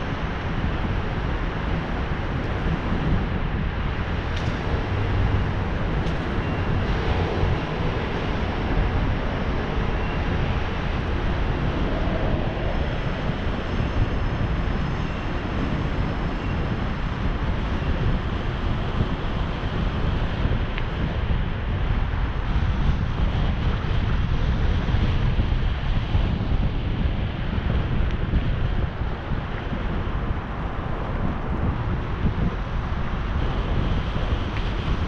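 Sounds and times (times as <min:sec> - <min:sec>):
wind rushing on microphone: 0:00.0 - 0:35.0.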